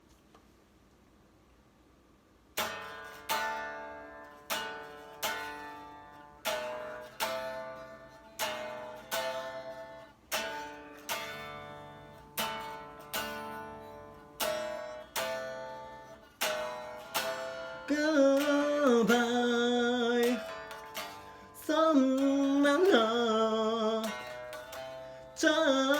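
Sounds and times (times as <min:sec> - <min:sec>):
guitar chords ringing: 0:02.6 - 0:25.9.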